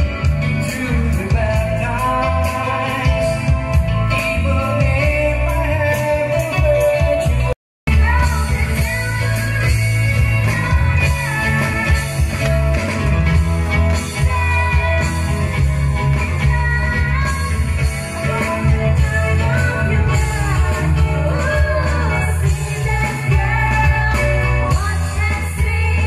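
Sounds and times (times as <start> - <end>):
person singing: 0.0 - 12.9, 13.8 - 26.0
live pop-rock band: 0.0 - 26.0.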